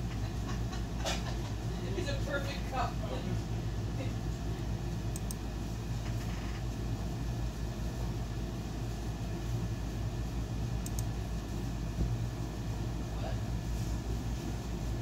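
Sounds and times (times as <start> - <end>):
steady low background hum: 0.0 - 15.0.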